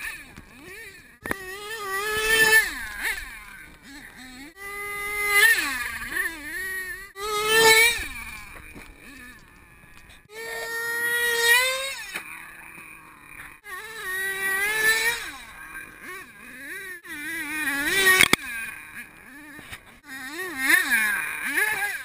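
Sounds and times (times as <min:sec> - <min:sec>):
small nitro engine revving: 0:00.0 - 0:22.0.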